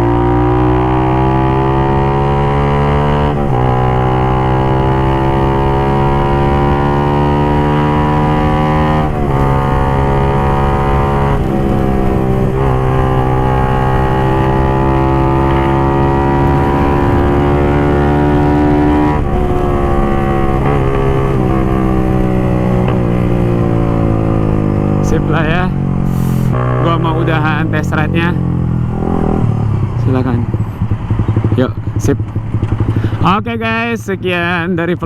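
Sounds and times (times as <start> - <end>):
motorcycle engine running hard: 0.0 - 35.0.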